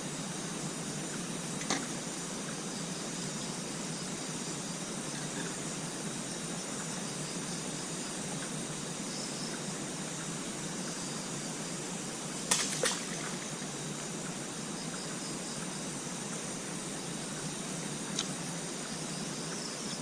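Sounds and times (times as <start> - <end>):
hissing outdoor ambience: 0.0 - 20.0.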